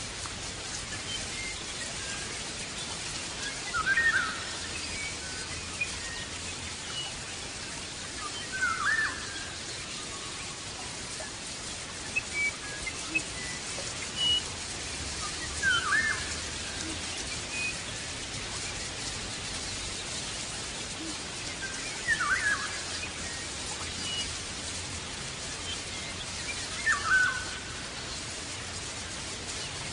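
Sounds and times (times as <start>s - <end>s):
steady hiss: 0.0s - 29.9s.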